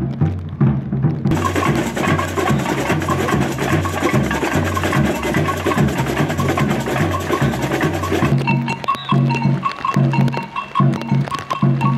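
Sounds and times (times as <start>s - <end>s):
bass drums beating: 0.0s - 11.9s
snare shaker and tamborim rhythm: 1.2s - 11.9s.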